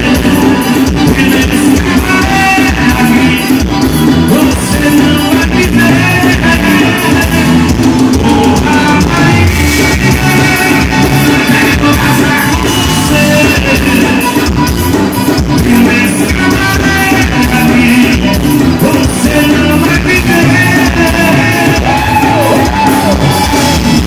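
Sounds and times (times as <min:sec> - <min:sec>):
accordion: 0:00.0 - 0:24.0
electric bass: 0:00.0 - 0:24.0
man singing: 0:00.0 - 0:24.0.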